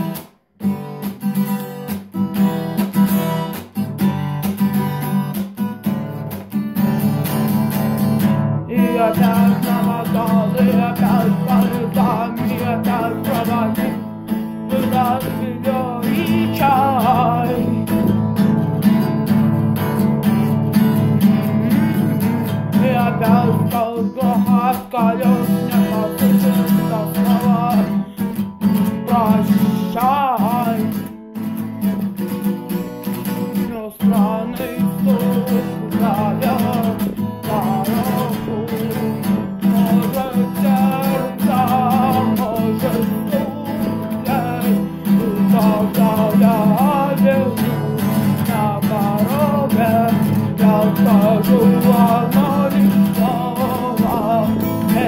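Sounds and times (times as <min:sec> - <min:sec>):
acoustic guitar strumming: 0:00.0 - 0:55.0
person singing: 0:08.5 - 0:32.3, 0:33.1 - 0:55.0.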